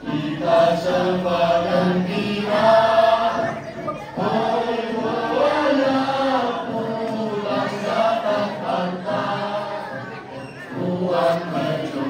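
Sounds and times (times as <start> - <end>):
children chanting and singing: 0.0 - 12.0.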